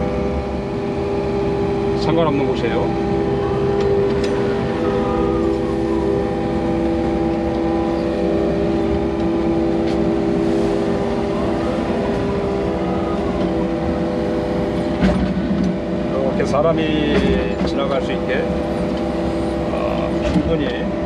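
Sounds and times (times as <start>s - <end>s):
excavator engine rumble: 0.0s - 21.0s
hydraulic whine: 0.0s - 21.0s.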